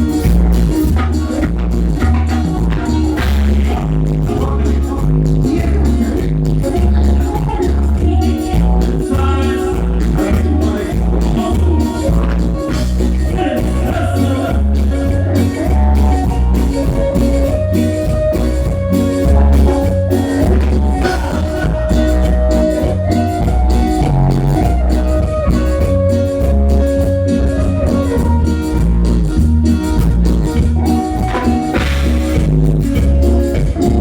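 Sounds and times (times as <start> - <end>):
heavy pulsing bass beat: 0.0 - 34.0
live band playing: 0.0 - 34.0.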